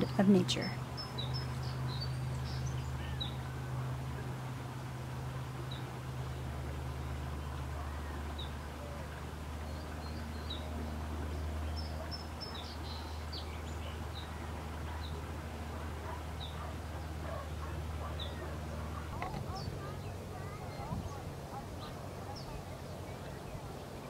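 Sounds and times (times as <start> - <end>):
low background rumble: 0.0 - 24.0.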